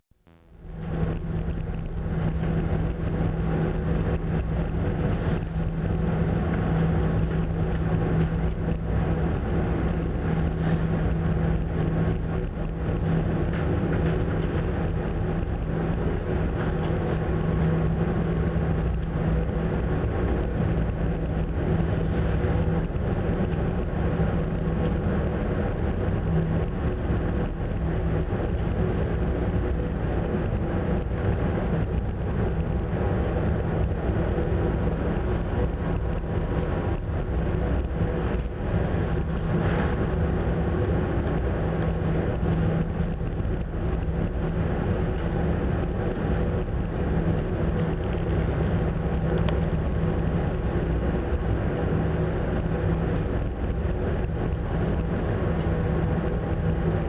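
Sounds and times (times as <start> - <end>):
ship engines droning: 0.3 - 57.0.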